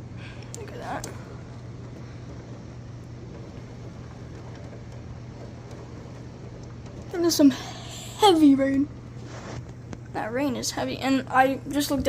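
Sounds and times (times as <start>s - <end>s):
heavy rain pouring: 0.0s - 10.4s
low hum: 0.0s - 12.0s.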